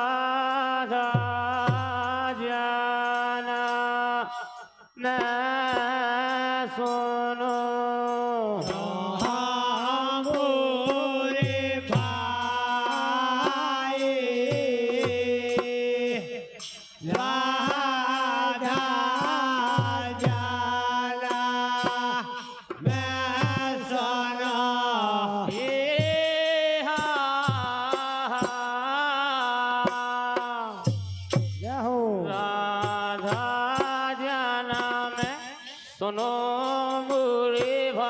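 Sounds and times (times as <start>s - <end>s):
man singing chant-like: 0.0s - 38.0s.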